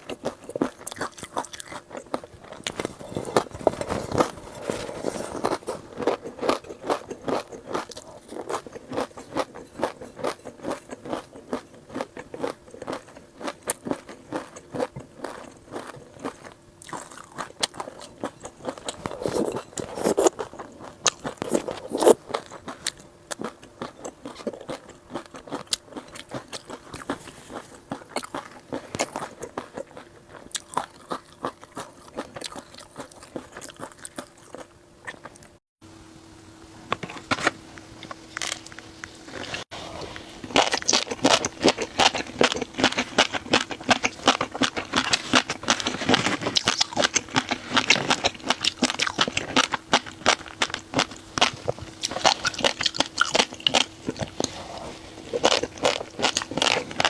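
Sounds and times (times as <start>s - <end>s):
person chewing crunchy food: 0.0s - 35.6s, 38.0s - 57.0s.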